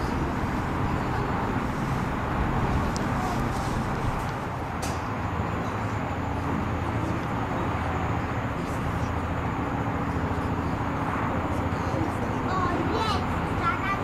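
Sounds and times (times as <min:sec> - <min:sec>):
distant propeller aircraft drone: 0:00.0 - 0:14.0.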